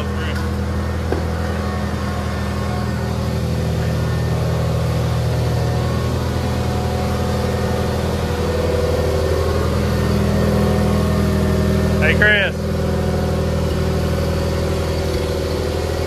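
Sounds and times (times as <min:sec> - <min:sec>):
garden tractor engine running: 0:00.0 - 0:16.0.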